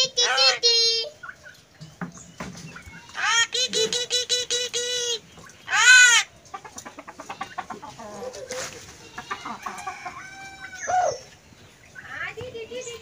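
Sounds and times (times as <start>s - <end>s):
myna bird calling: 0.0s - 13.0s.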